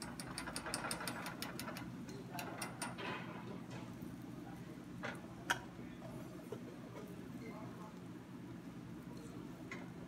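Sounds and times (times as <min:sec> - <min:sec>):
low kitchen hum: 0:00.0 - 0:10.0.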